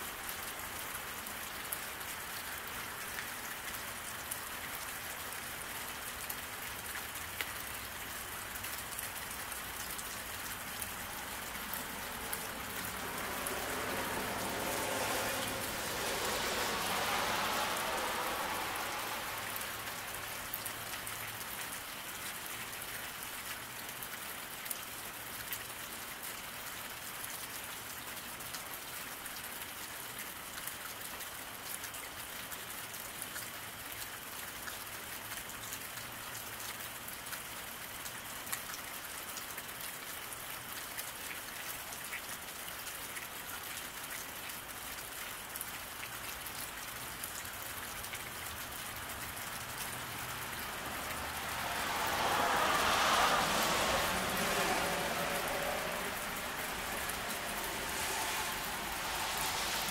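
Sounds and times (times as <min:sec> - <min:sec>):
car tyres passing on wet road: 0:00.0 - 0:59.9
rain falling on a road: 0:00.0 - 0:59.9.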